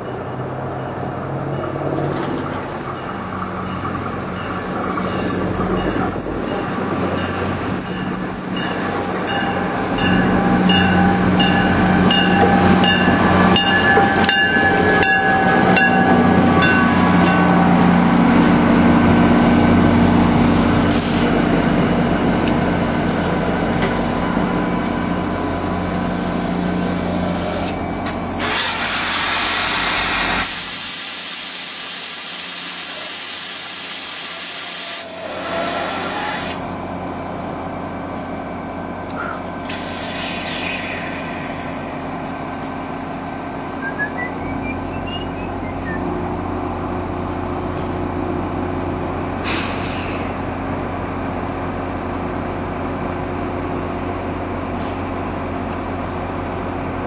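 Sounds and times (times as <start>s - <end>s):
diesel locomotive engine drone: 0.0s - 57.0s
railcars rumbling: 0.0s - 57.0s.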